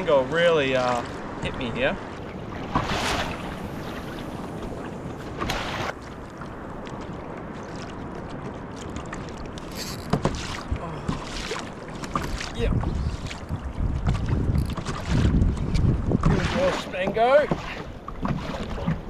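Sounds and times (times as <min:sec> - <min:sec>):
water splashing against kayak: 0:00.0 - 0:19.0.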